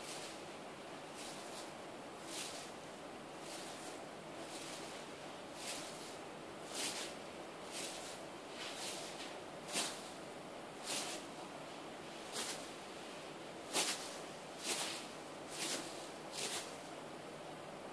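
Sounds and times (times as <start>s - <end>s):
soft regular breathing: 0.0s - 17.1s
faint steady hiss: 0.0s - 17.9s.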